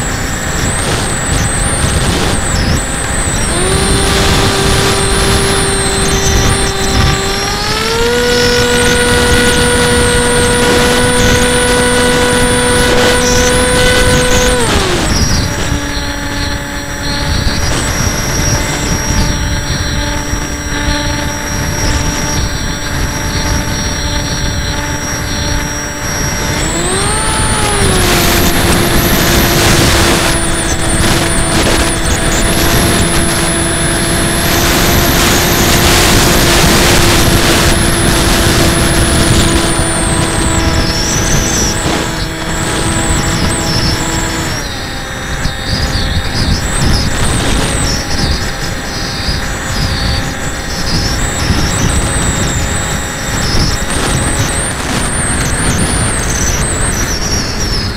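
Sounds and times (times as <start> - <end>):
electric motor and propeller whine: 0.0 - 57.9
wind rushing: 0.0 - 57.9.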